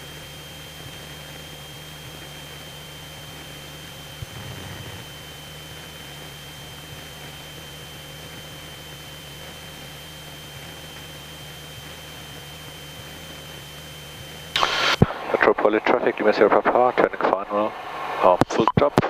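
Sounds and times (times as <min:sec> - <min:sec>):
aircraft engine droning: 0:00.0 - 0:18.4.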